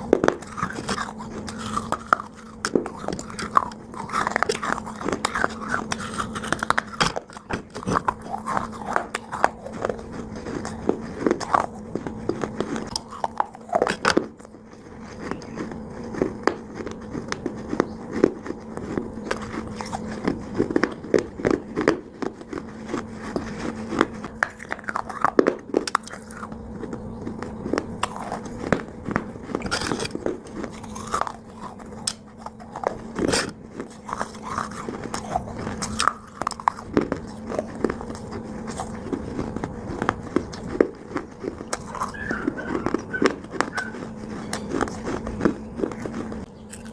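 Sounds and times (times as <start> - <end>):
dry clay being chewed: 0.0 - 46.9.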